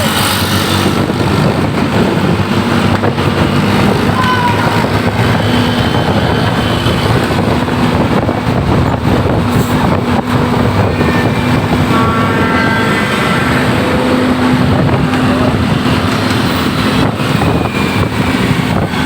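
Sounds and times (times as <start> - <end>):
large vehicle engine running: 0.0 - 19.0
road traffic noise: 0.0 - 19.0.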